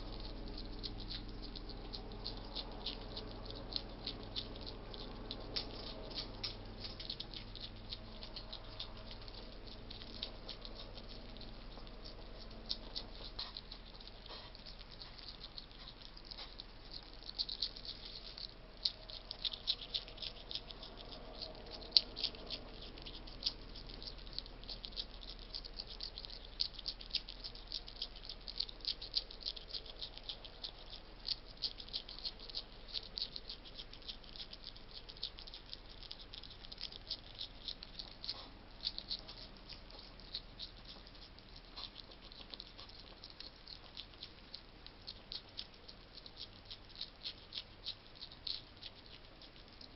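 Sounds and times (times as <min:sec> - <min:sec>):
hedgehog crunching dry food: 0:00.0 - 0:49.9.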